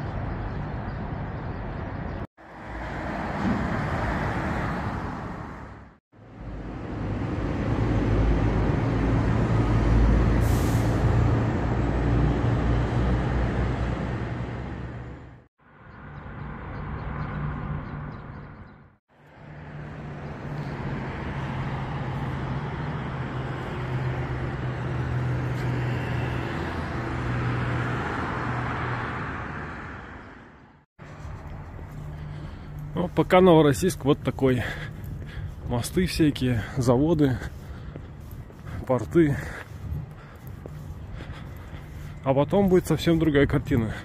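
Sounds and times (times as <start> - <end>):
vehicle engines humming: 1.2 - 44.0.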